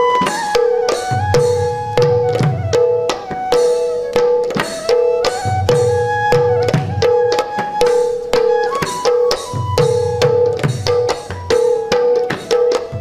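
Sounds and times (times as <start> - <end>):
hand drum rhythm: 0.0 - 13.0
instrumental dance melody: 0.0 - 13.0.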